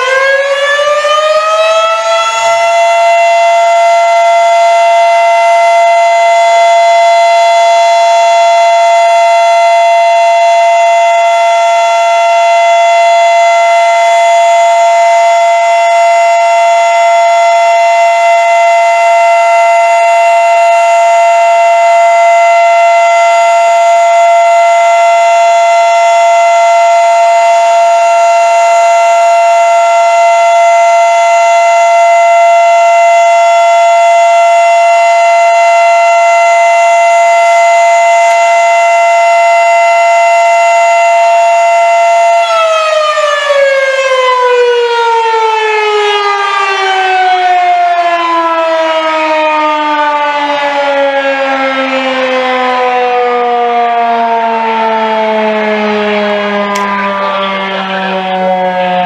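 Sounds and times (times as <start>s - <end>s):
warning siren steady tone: 0.0s - 59.0s.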